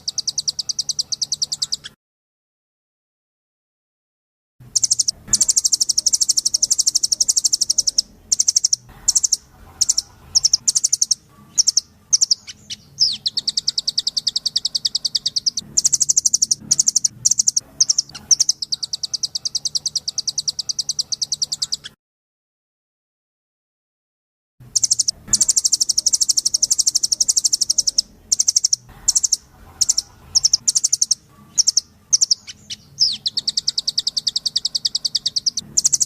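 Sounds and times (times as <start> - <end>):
songbird trills and chatter: 0.0 - 2.0, 4.7 - 22.0, 24.7 - 36.0.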